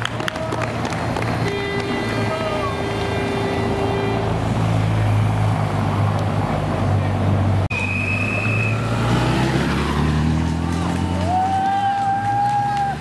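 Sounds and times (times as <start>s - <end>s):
low engine hum of vehicles: 0.0s - 13.0s.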